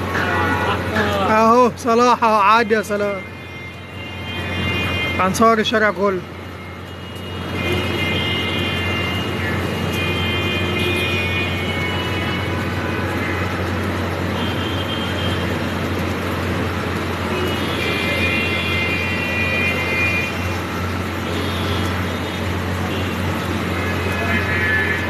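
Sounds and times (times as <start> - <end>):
street traffic engine hum: 0.0 - 25.0.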